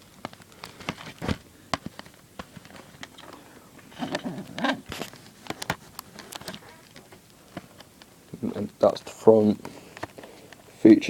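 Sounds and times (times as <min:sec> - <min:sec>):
shrink-wrap crackling: 0:00.0 - 0:10.7.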